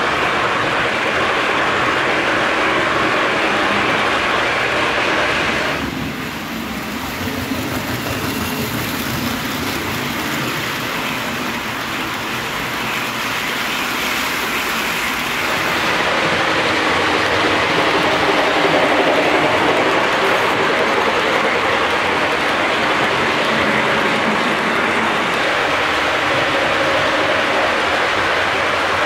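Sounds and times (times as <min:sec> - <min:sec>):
model train rolling on track: 0:00.0 - 0:29.0.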